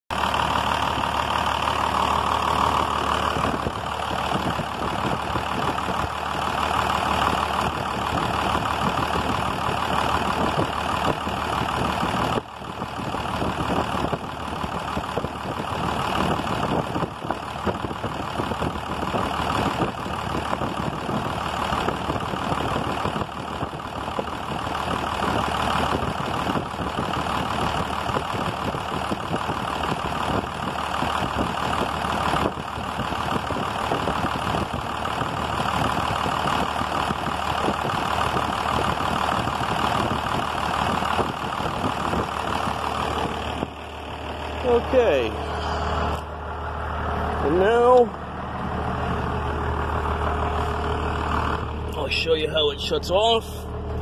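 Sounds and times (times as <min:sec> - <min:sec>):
diesel truck engine idling: 0:00.1 - 0:54.0.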